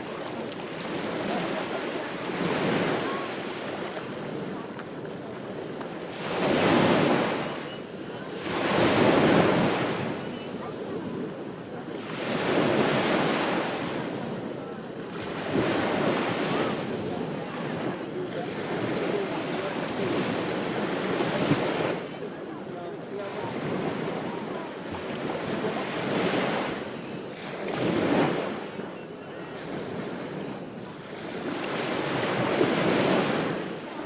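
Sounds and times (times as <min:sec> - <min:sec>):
waves breaking on a beach: 0:00.0 - 0:34.0.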